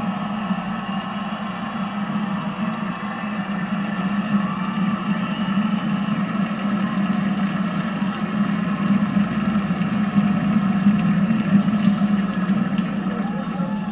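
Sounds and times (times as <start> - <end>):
crowd cheering and applauding: 0.0 - 13.9.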